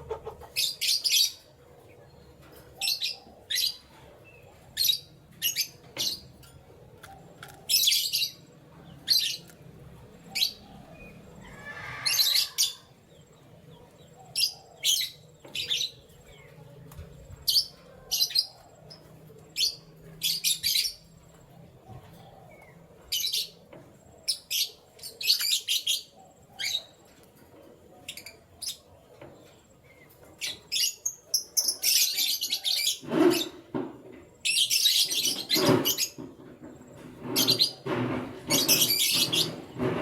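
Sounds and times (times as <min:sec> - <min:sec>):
canaries chirping: 0:00.0 - 0:40.0.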